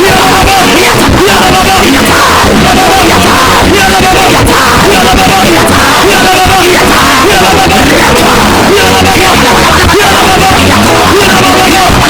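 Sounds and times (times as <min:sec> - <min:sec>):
loud worship music: 0:00.0 - 0:12.0
voices shouting: 0:00.0 - 0:12.0.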